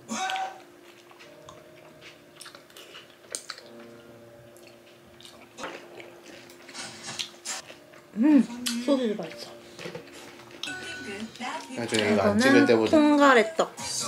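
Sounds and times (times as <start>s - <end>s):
person chewing food: 0.0s - 8.8s, 9.4s - 12.3s.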